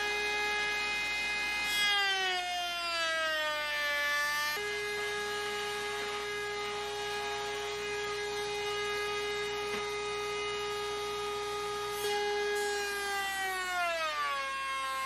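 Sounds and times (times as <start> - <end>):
router spinning with steady whine: 0.0 - 15.0.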